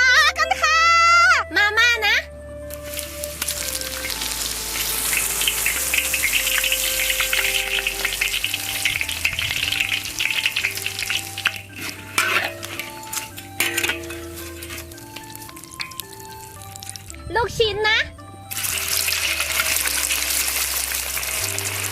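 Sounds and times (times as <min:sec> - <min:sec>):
background music: 0:00.0 - 0:21.9
sausages sizzling in oil: 0:02.7 - 0:17.2, 0:18.5 - 0:21.9.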